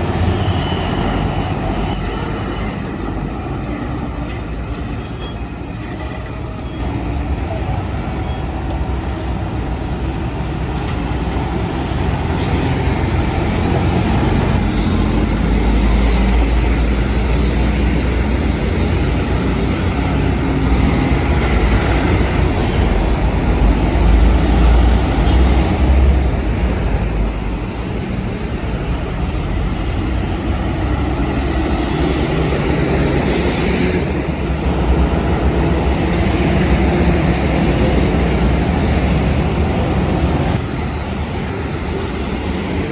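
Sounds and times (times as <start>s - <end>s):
diesel truck engine rumble: 0.0s - 42.9s
road and traffic noise: 0.0s - 42.9s.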